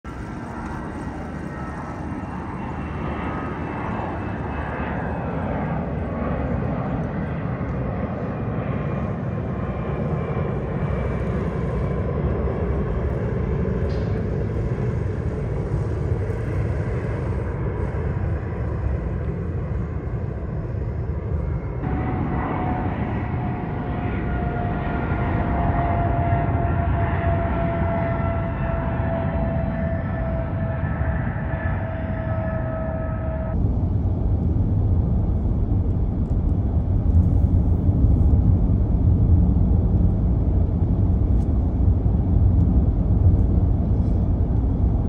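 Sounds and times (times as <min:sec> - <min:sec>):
high jet engine whine: 0:00.0 - 0:45.0
jet engine rumble: 0:00.0 - 0:45.0.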